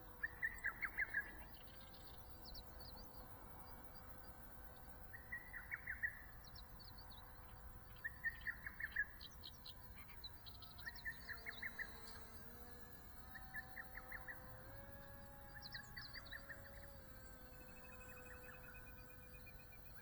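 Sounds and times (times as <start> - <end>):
faint steady hum: 0.0 - 20.0
small birds chirping: 0.0 - 20.0.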